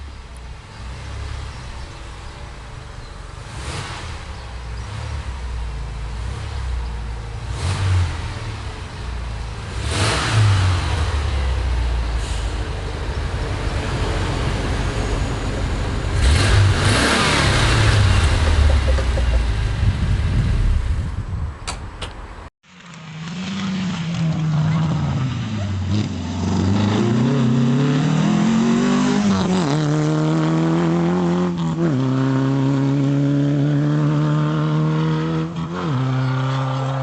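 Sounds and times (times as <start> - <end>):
engine running and revving: 0.0 - 21.2, 22.7 - 37.0.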